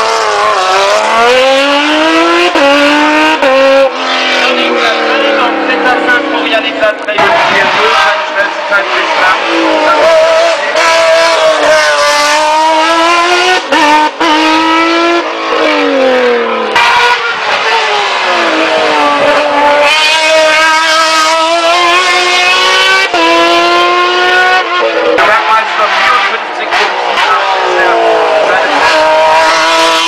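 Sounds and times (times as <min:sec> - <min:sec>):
race car engine accelerating: 0:00.0 - 0:30.0.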